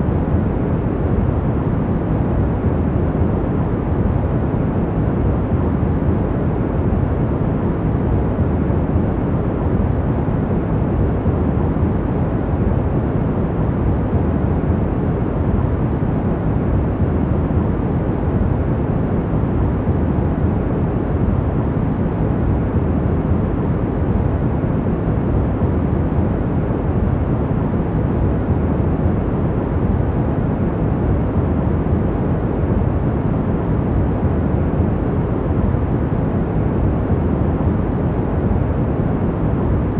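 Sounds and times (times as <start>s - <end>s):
deep steady rushing noise: 0.0s - 39.9s.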